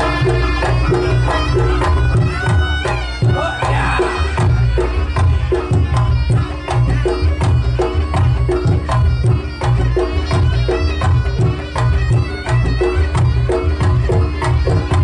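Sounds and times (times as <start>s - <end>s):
hand drums beating: 0.0s - 15.0s
ringing pitched percussion: 0.0s - 15.0s.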